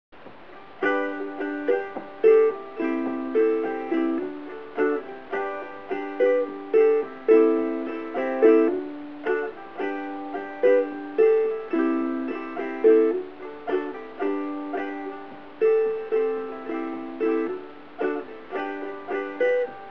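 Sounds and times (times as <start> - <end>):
ukulele chords strummed: 0.2 - 19.9.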